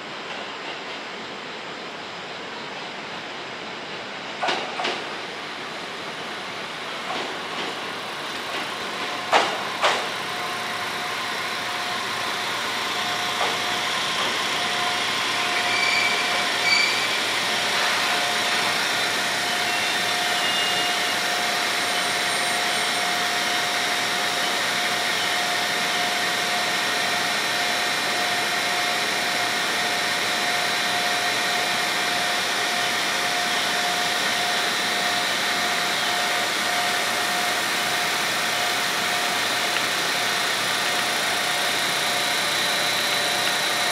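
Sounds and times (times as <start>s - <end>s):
diesel train engine drone: 0.0s - 43.9s.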